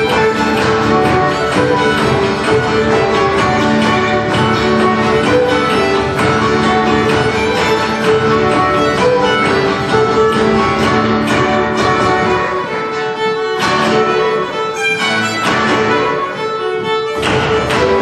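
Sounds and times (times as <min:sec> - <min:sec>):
fiddles playing a polka: 0:00.0 - 0:18.0
strummed acoustic guitar: 0:00.0 - 0:18.0.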